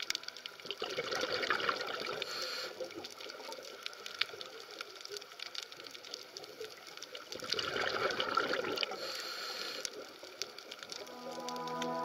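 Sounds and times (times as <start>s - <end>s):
underwater water rushing: 0.0s - 5.1s, 5.9s - 12.0s.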